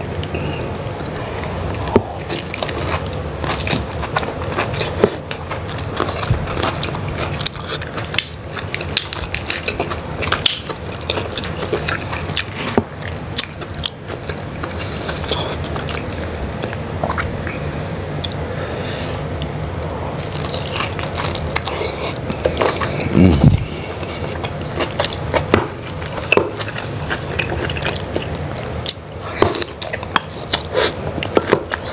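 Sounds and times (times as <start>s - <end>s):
wet chewing and lip smacking: 1.8s - 17.6s, 18.2s - 18.4s, 19.4s - 31.9s.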